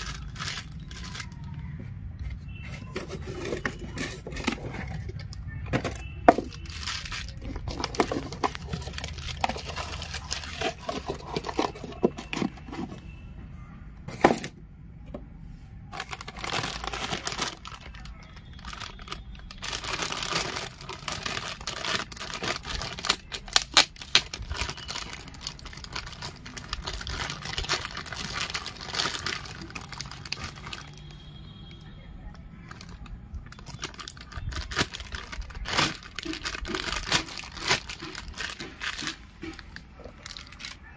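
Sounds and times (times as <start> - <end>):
plastic bag crinkling and tearing: 0.0 - 1.6, 2.4 - 13.0, 15.9 - 31.2, 32.6 - 40.9.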